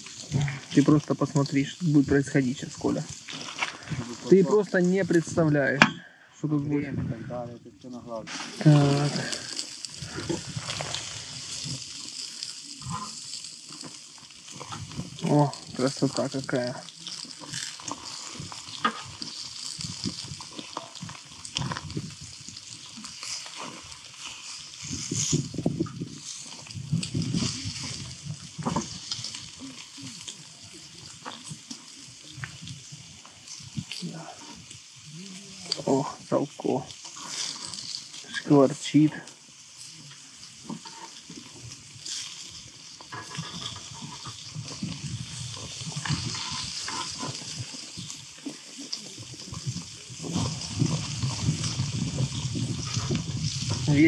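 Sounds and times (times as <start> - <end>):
meat sizzling on a grill: 0.0 - 5.8, 7.3 - 54.0
wind rumbling on microphone: 0.0 - 5.9, 6.5 - 13.6, 14.4 - 38.2, 39.8 - 54.0
sharp pops and crackles: 0.0 - 54.0.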